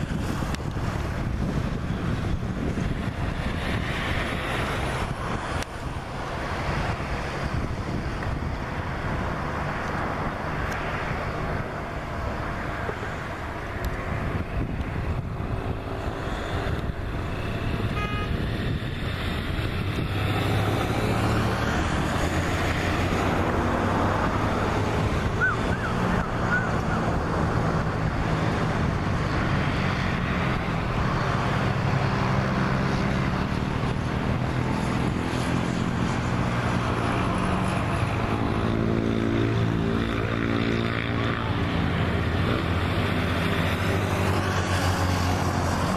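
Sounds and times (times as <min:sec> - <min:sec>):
jet engines roaring: 0:00.0 - 0:45.9.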